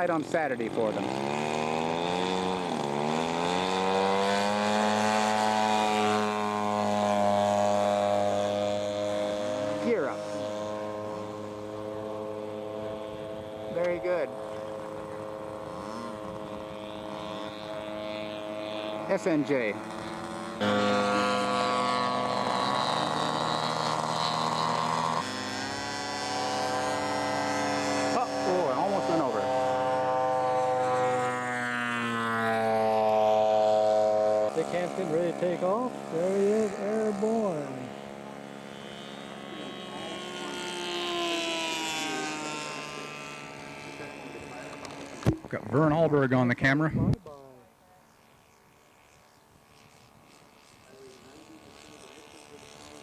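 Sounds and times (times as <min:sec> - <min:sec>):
model airplane engine revving: 0:00.0 - 0:53.0.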